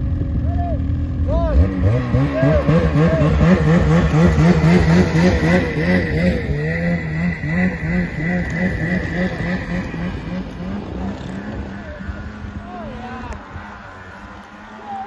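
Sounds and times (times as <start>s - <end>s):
snowmobile engine running hard: 0.0s - 15.0s.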